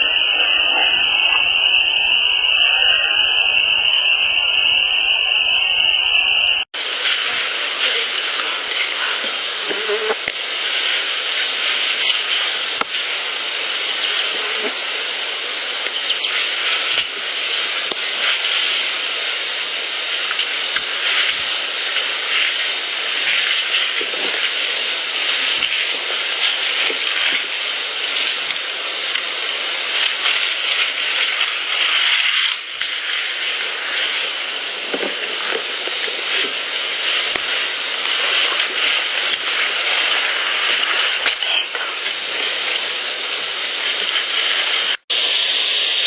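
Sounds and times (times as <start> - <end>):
loud hiss of field recording: 0.0 - 46.0.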